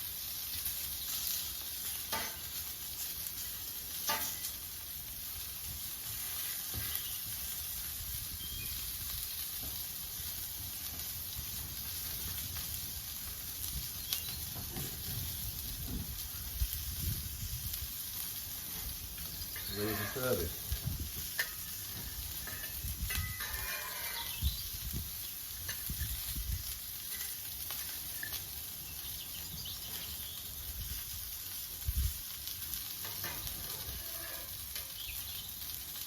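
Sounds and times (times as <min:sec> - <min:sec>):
food sizzling on a griddle: 0:00.0 - 0:36.0.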